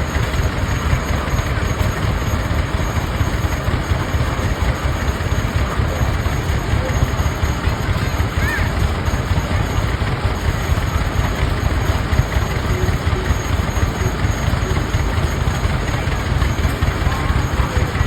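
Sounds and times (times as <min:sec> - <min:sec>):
tractor engines chugging: 0:00.0 - 0:18.0.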